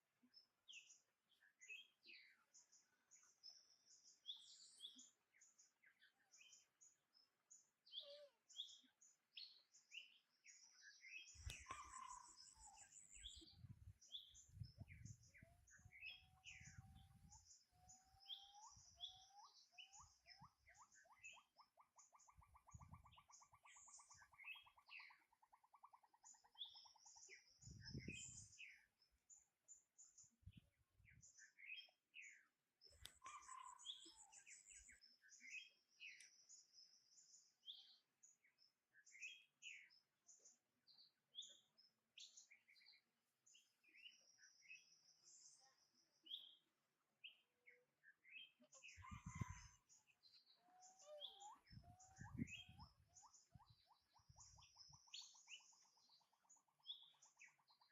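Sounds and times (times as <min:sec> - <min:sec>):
bird chirping: 0:00.2 - 0:57.9.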